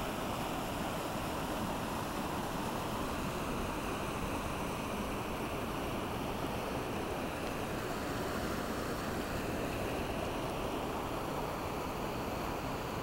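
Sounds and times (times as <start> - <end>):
creek rushing over boulders: 0.0 - 13.0.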